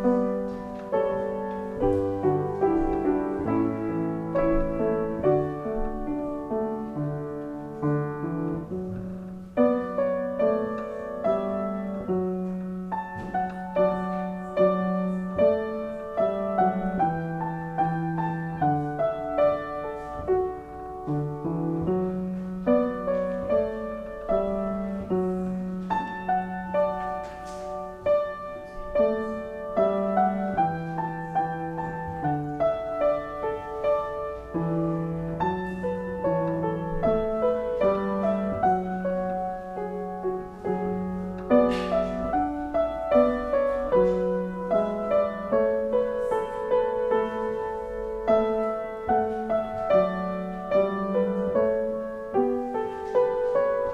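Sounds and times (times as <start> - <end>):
slow piano music: 0.0 - 53.9.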